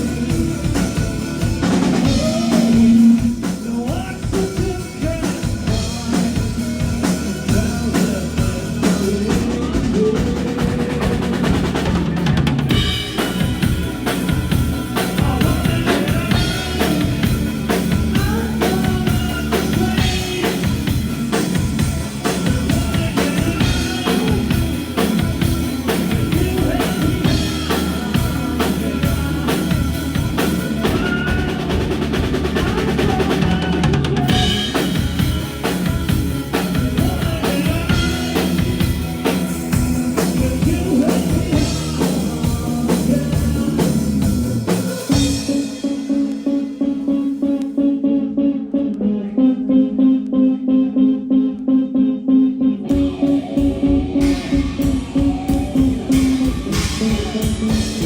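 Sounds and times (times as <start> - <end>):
drum kit fast beat: 0.0 - 46.6, 52.9 - 58.0
rock band playing instrumental: 0.0 - 47.6, 52.9 - 58.0.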